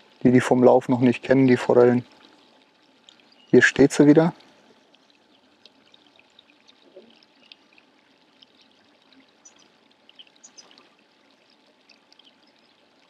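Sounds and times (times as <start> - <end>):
low steady water rush: 0.0 - 13.0
water drips: 0.0 - 13.0
water trickling: 0.0 - 13.0.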